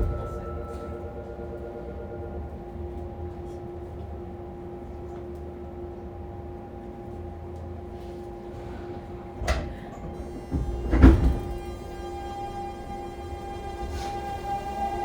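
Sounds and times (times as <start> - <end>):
train equipment hum: 0.0 - 15.0.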